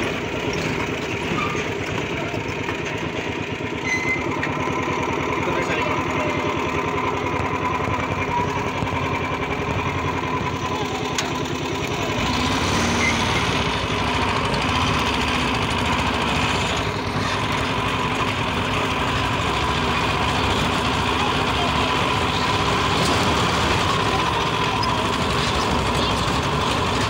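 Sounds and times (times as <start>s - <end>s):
small engine chugging: 0.0s - 27.0s.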